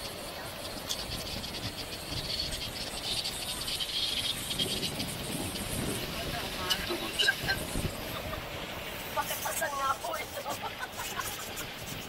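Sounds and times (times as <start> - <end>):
insects chirping: 0.0 - 10.8
cart rumbling: 0.0 - 12.0.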